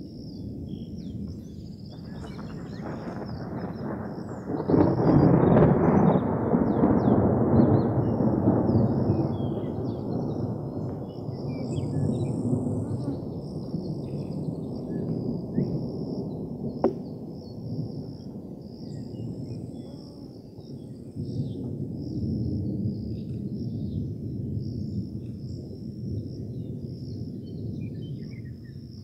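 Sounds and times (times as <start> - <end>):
thunder rumbling: 0.4 - 29.0.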